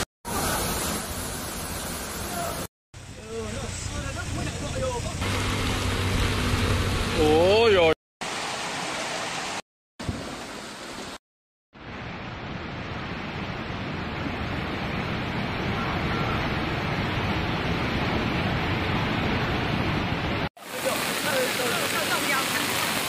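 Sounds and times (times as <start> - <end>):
heavy rain: 0.0 - 2.7, 3.6 - 11.2, 11.8 - 23.0
floodwater roaring through street: 0.0 - 11.2, 11.8 - 23.0.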